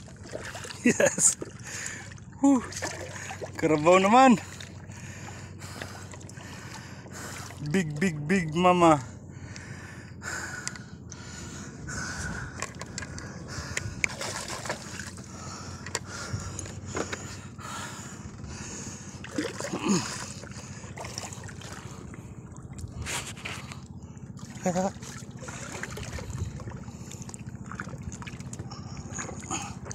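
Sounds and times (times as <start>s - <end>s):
water splashing and sloshing: 0.0s - 29.9s.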